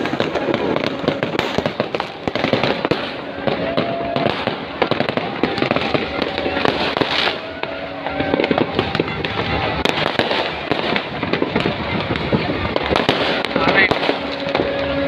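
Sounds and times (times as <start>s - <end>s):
fireworks bangs and crackles: 0.0s - 15.0s
steady tones: 0.0s - 15.0s.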